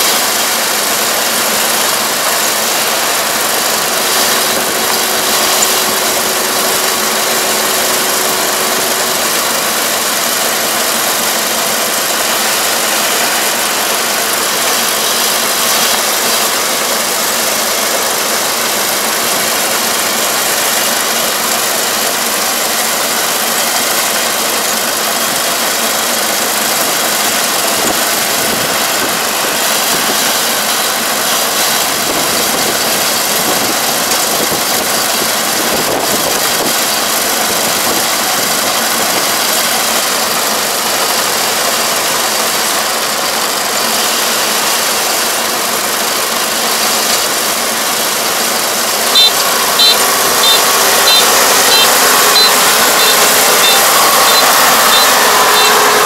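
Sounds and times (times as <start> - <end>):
combine harvester engine and threshing: 0.0 - 56.0.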